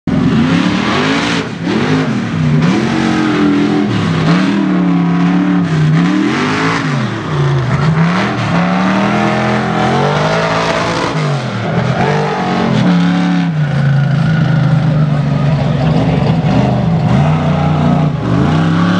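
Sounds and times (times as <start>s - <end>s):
truck engine revving hard: 0.1s - 18.9s.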